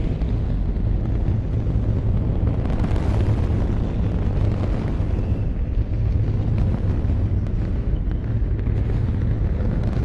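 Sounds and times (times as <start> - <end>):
rocket engines rumbling: 0.0 - 10.0.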